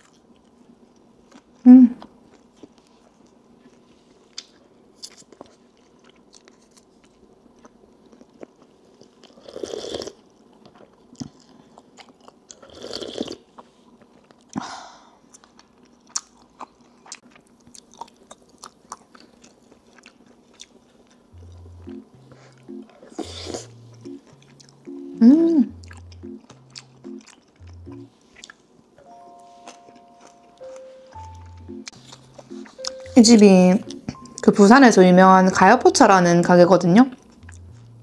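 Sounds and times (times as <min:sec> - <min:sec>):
person chewing: 0:00.0 - 0:14.6, 0:15.2 - 0:33.2, 0:37.2 - 0:38.0.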